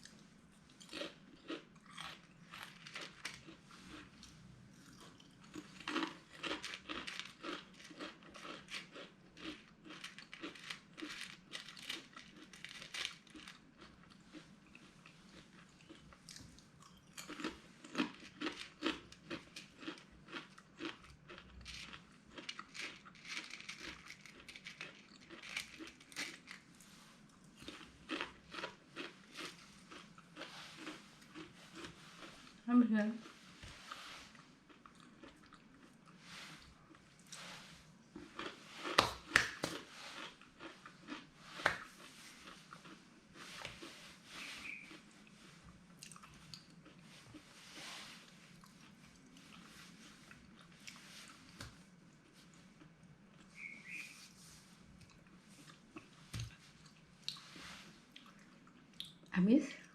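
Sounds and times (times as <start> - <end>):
crunching crisp potato snack: 0.0 - 32.6, 33.2 - 37.5, 38.1 - 54.2.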